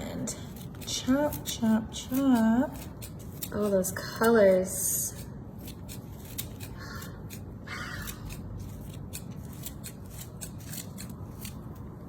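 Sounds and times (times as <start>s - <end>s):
parsley being cut: 0.0s - 12.0s.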